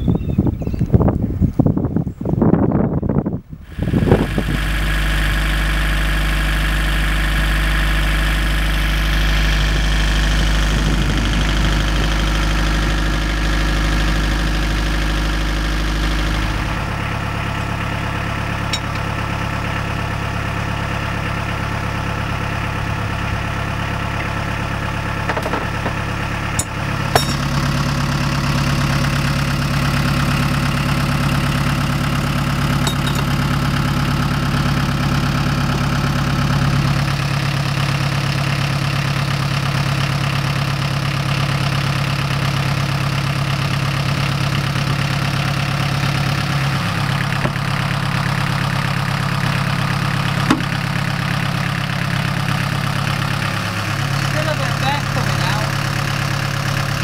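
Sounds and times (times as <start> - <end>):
boat engine idling: 3.6 - 57.0.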